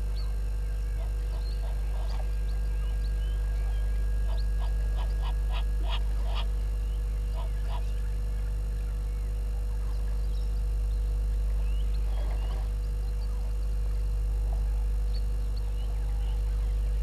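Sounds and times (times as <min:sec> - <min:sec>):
bird chirping: 0:00.0 - 0:13.9, 0:14.6 - 0:17.0
steady low hum: 0:00.0 - 0:17.0.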